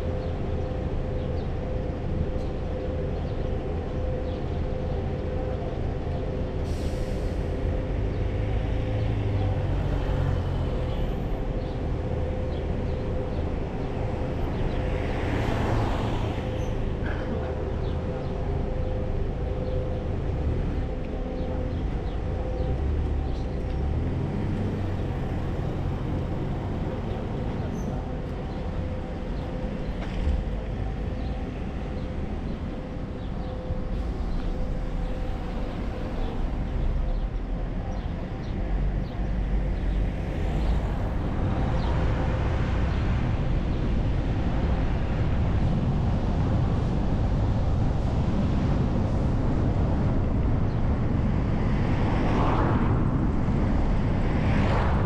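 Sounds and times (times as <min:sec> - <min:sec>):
bus engine rumble: 0:00.0 - 0:55.0.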